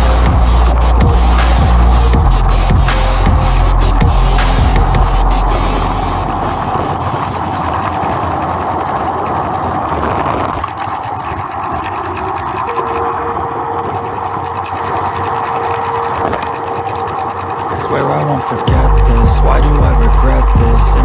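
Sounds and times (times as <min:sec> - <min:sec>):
bicycle tyres rolling on concrete: 0:00.0 - 0:21.0.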